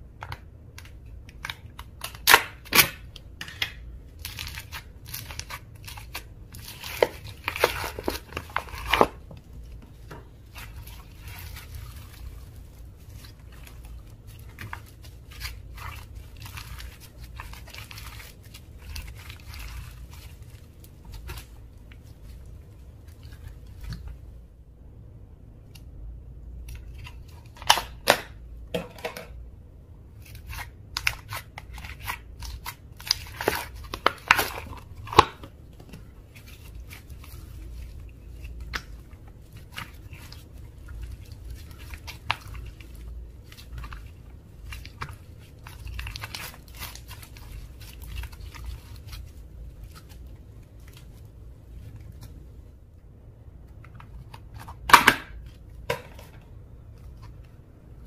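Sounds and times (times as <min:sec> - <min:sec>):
slime squishing with wet pops: 0:00.2 - 0:24.4, 0:30.2 - 0:52.7.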